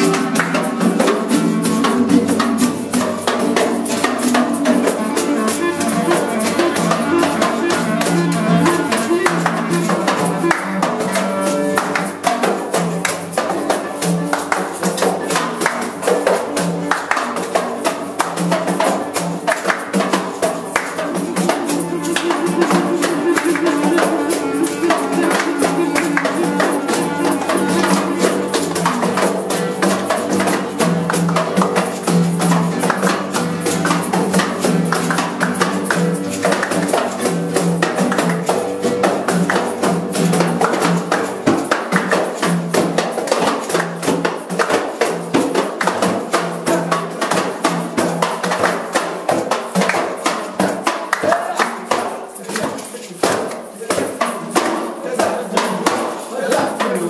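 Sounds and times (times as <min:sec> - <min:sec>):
tambourine jingling: 0:00.0 - 0:57.0.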